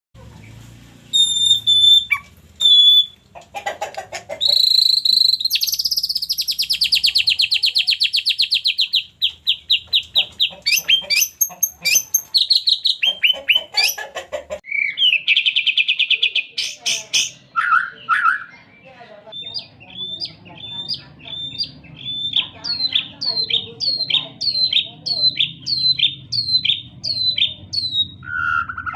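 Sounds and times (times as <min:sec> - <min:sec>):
bird singing with trills: 0:00.3 - 0:03.3, 0:04.4 - 0:14.0, 0:14.6 - 0:28.9.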